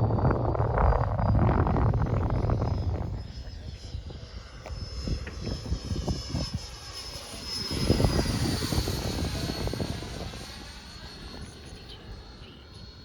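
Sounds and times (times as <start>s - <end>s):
remote-control jet whine: 0.0s - 13.0s
wind buffeting microphone: 0.0s - 13.0s.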